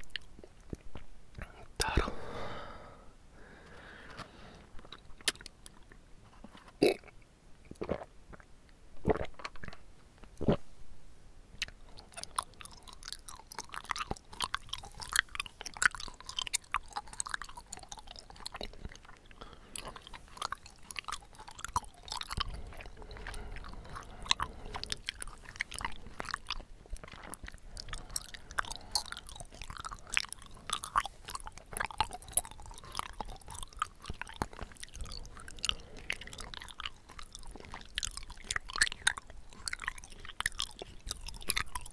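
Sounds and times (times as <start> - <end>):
person chewing tapioca pearls: 0.0 - 10.7, 11.5 - 41.9.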